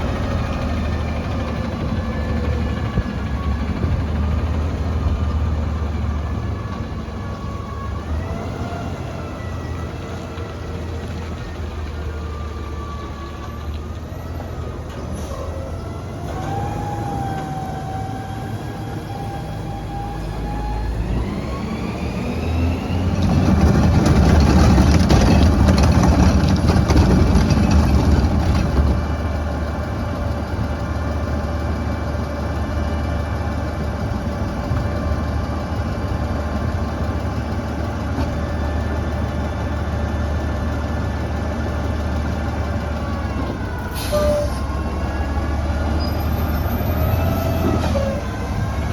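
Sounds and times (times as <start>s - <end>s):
truck diesel engine revving: 0.0s - 48.9s.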